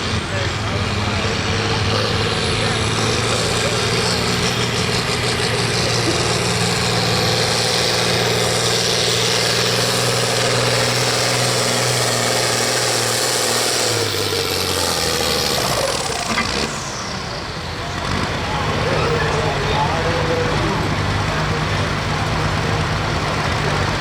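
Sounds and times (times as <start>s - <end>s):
diesel engine running hard: 0.0s - 24.0s.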